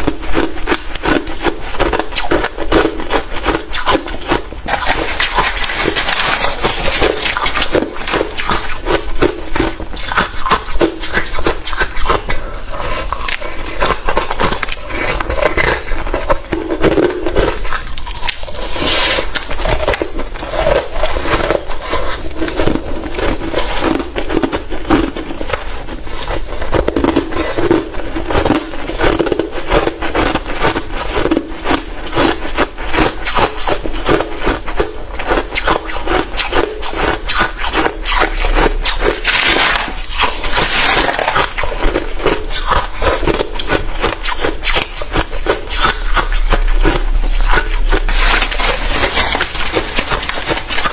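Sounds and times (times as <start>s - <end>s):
crushed ice being chewed: 0.0s - 50.9s.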